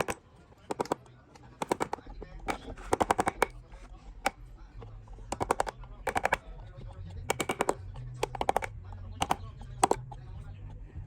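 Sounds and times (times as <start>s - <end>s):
rapid sharp taps: 0.0s - 3.6s, 4.2s - 10.8s.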